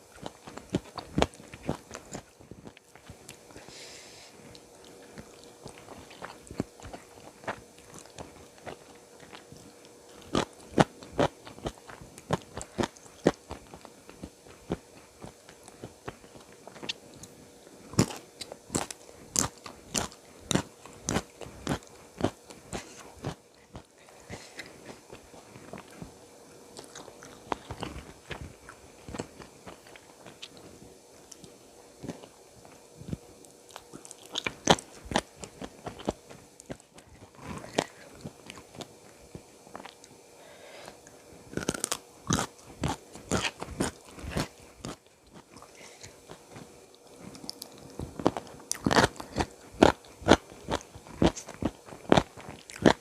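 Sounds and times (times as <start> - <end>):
crunchy bites and chewing: 0.1 - 3.6, 4.4 - 40.2, 40.9 - 53.0.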